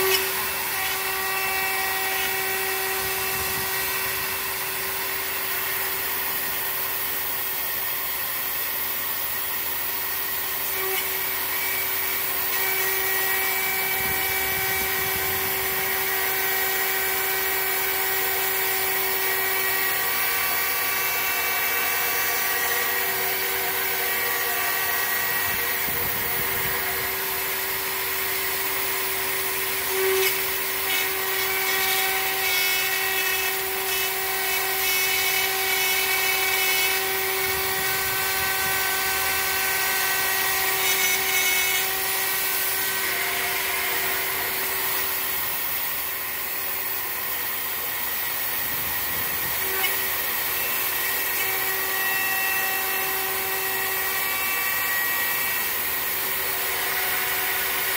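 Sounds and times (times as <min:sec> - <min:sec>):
end mill cutting metal: 0:00.0 - 0:57.9
high-speed spindle whine: 0:00.0 - 0:57.9.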